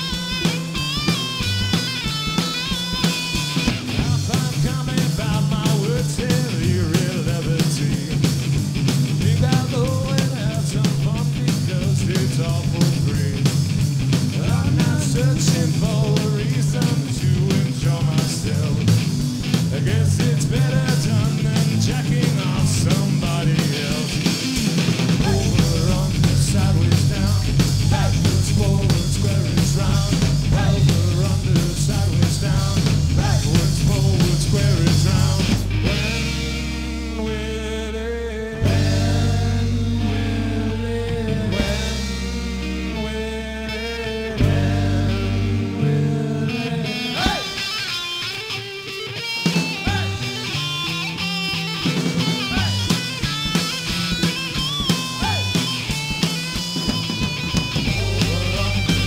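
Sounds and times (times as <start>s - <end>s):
drum kit: 0.0s - 37.6s, 38.5s - 43.6s, 44.3s - 46.2s, 47.0s - 59.0s
distorted electric guitar: 0.0s - 59.0s
electric bass: 0.0s - 59.0s.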